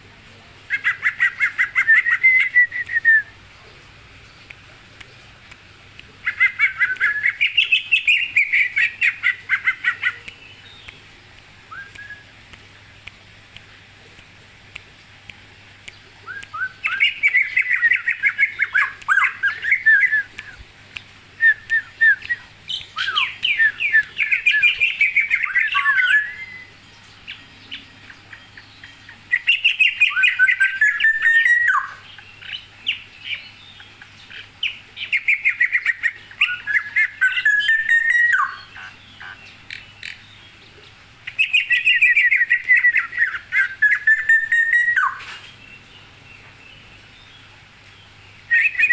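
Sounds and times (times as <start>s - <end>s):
songbird chirping and whistling: 0.7s - 3.4s, 6.2s - 11.0s, 11.7s - 12.3s, 15.8s - 40.5s, 41.3s - 47.4s, 48.5s - 48.9s.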